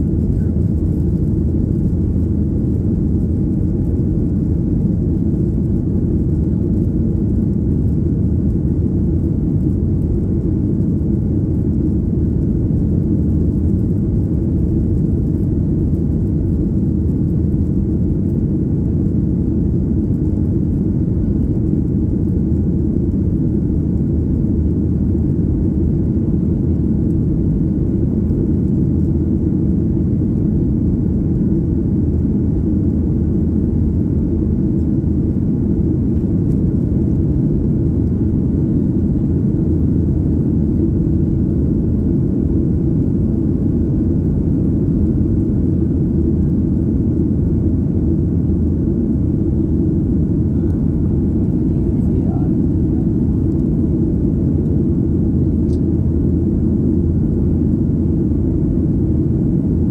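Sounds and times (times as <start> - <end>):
jet engine rumble in airliner cabin: 0.0 - 59.9.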